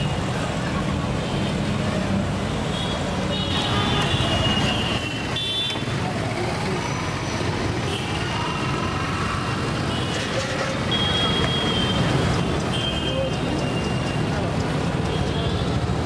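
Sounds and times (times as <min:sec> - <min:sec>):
passing traffic rumble: 0:00.0 - 0:16.0.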